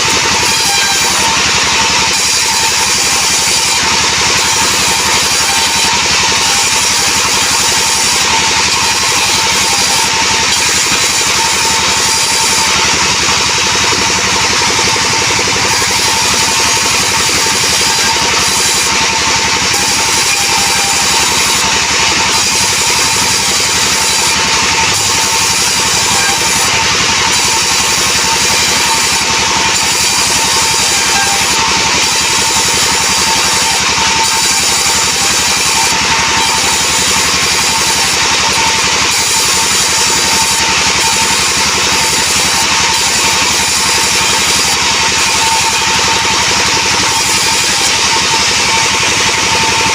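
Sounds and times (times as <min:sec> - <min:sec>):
engine drone: 0:00.0 - 0:49.9
saw blade hissing: 0:00.0 - 0:49.9.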